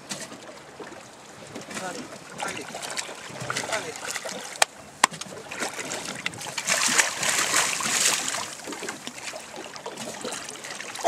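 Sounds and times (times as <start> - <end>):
fish splashing and thrashing: 0.0 - 11.0.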